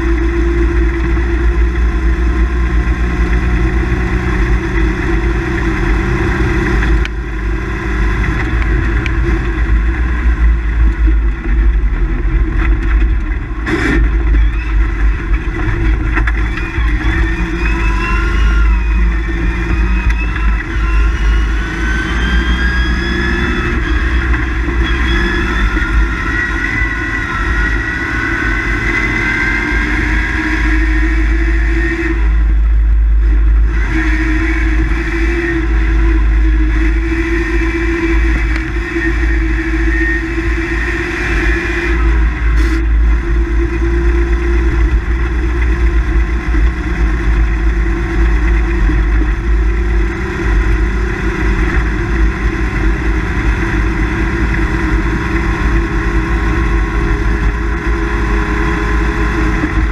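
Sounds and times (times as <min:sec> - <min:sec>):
low road rumble: 0:00.0 - 0:59.9
rally car engine: 0:00.0 - 0:59.9.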